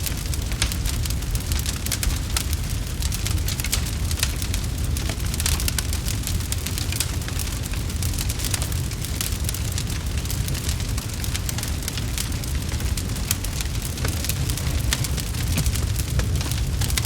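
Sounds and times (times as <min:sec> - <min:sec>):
fireplace fire crackling: 0:00.0 - 0:17.0
low fire rumble: 0:00.0 - 0:17.0.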